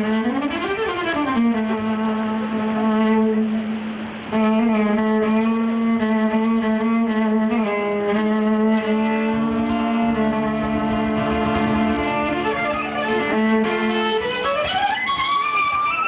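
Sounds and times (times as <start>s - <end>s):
fiddle playing: 0.0s - 16.0s.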